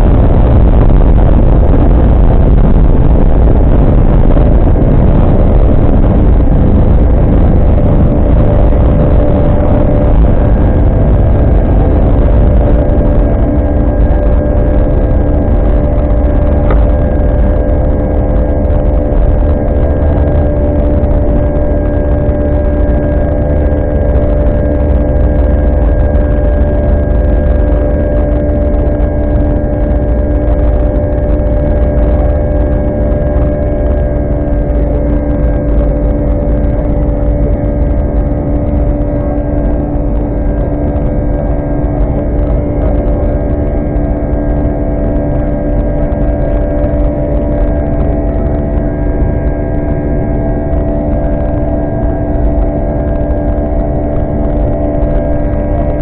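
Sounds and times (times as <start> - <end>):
airplane cabin rumble: 0.0 - 56.0
droning tones: 0.0 - 56.0.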